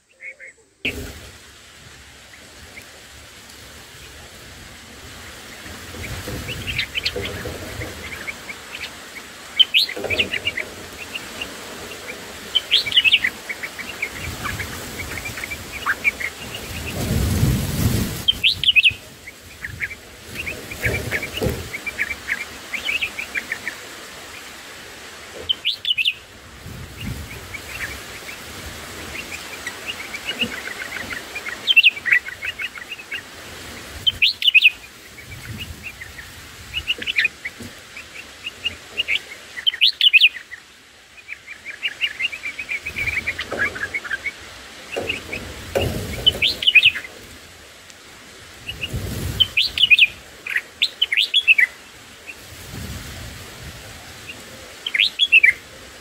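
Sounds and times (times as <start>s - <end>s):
birds chirping and trilling: 0.0s - 52.8s, 53.9s - 56.0s.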